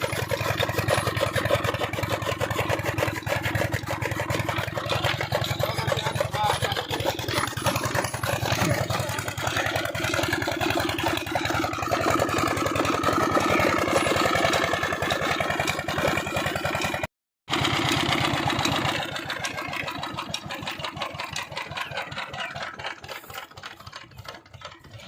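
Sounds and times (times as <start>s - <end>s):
stationary diesel engine running: 0.0s - 25.0s.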